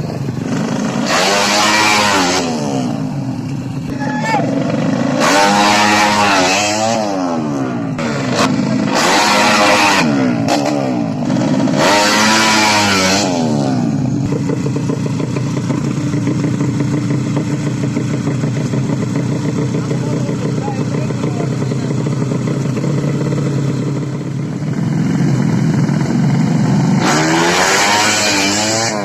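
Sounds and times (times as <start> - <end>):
motorcycle engines revving hard: 0.0 - 29.0.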